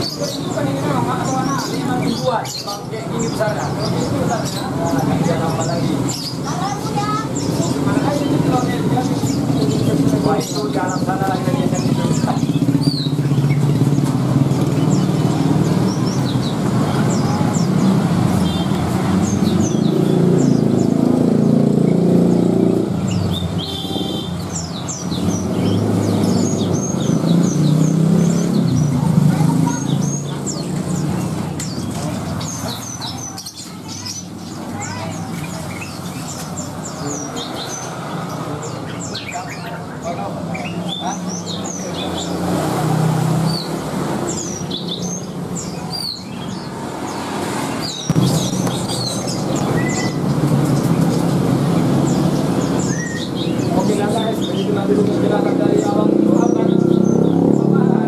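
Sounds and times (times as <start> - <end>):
caged birds chirping: 0.0 - 58.0
motorbike traffic rumble: 0.0 - 58.0.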